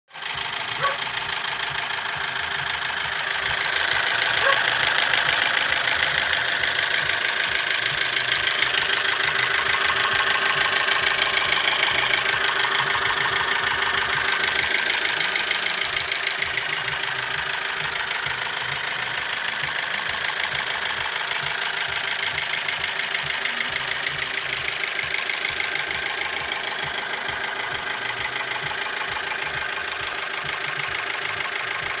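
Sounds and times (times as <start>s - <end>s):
car engine idling with knocking: 0.1s - 32.0s.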